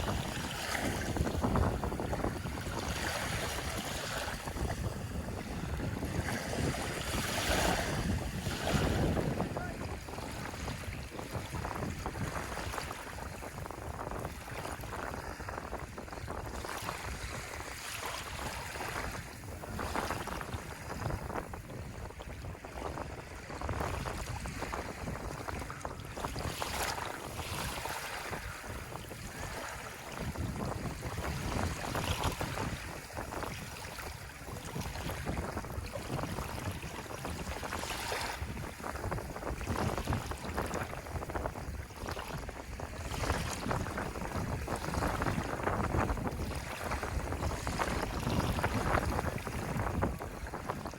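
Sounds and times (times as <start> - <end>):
ocean waves washing ashore: 0.0 - 50.9
wind rumbling on microphone: 0.0 - 50.9.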